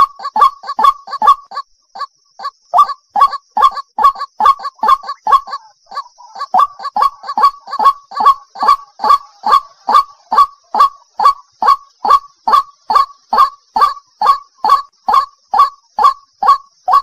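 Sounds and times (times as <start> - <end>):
waterhen calling harshly: 2.8 - 17.0.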